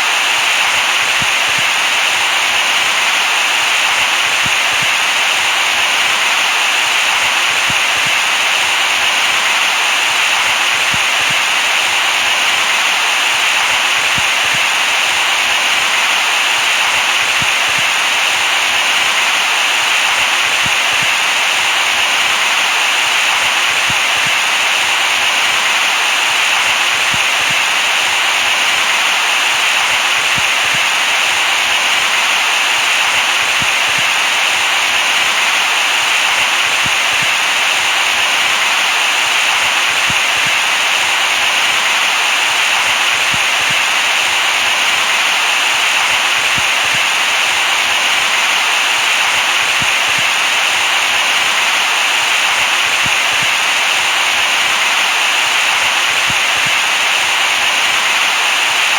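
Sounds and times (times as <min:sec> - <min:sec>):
electronic white noise hiss: 0:00.0 - 0:58.9.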